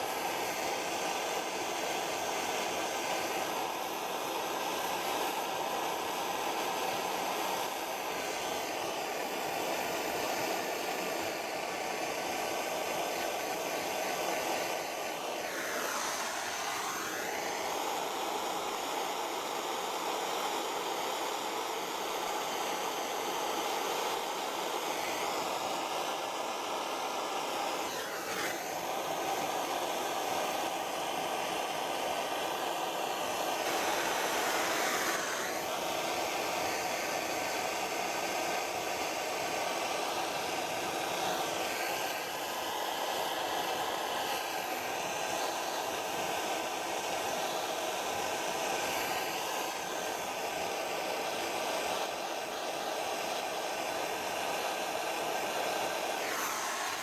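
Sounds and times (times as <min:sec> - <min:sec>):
blow lamp flame hissing: 0:00.0 - 0:57.0.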